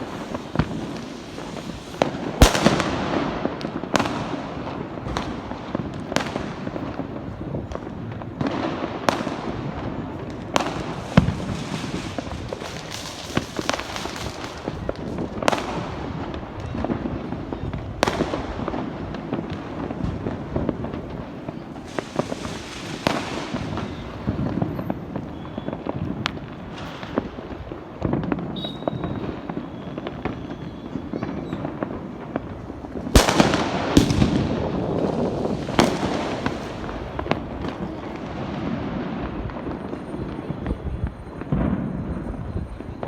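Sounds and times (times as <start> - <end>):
firecrackers crackling: 0.0 - 43.0
fireworks sharp bangs: 0.0 - 43.0.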